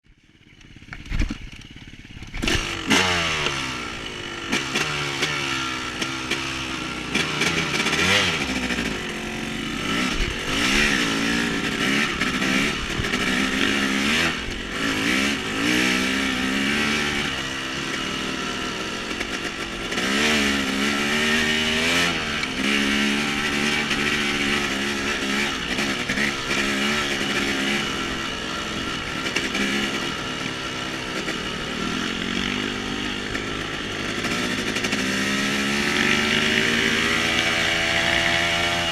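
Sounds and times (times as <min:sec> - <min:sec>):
off-road vehicle engine revving: 0:02.3 - 0:38.9.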